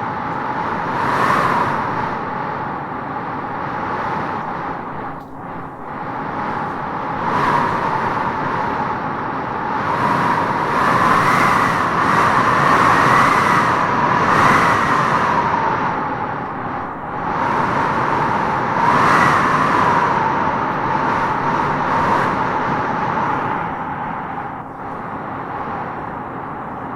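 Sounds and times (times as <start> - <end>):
wind howling through trees: 0.0 - 26.9.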